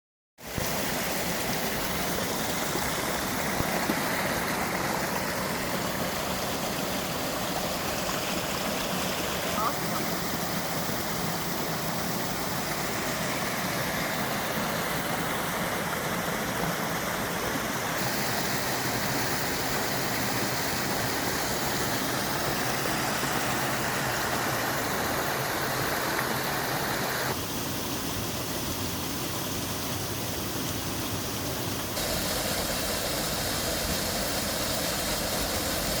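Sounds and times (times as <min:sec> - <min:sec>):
waterfall rushing: 0:00.4 - 0:27.5, 0:31.8 - 0:36.0.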